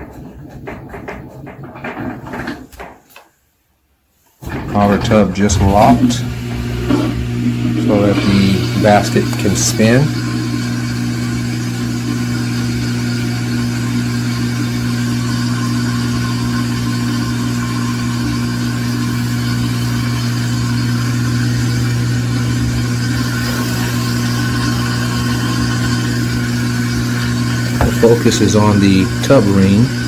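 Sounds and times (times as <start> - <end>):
washer motor spinning hum: 0.0 - 2.9, 4.4 - 30.0.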